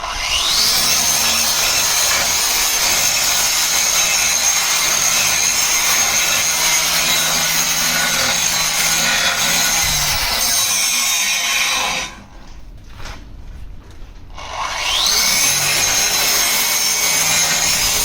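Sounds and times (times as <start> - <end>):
angle grinder whining: 0.0 - 12.3, 14.4 - 18.0
harsh grinding noise: 0.0 - 12.5, 14.3 - 18.0.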